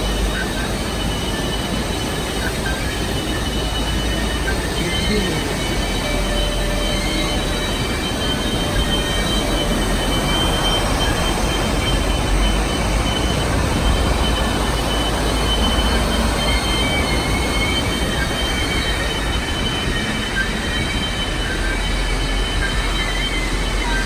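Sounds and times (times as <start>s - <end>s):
high wheel squeal: 0.0s - 24.0s
train wheels rumbling on rails: 0.0s - 24.0s.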